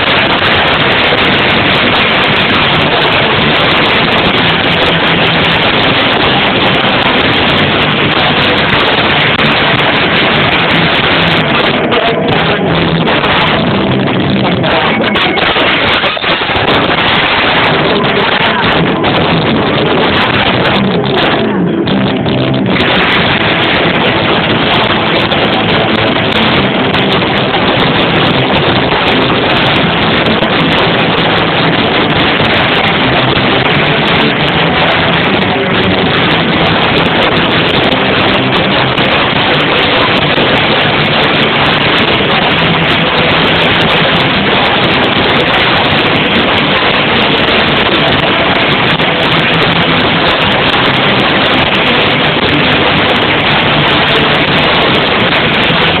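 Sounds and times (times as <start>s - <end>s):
distorted live rock band: 0.0s - 56.0s.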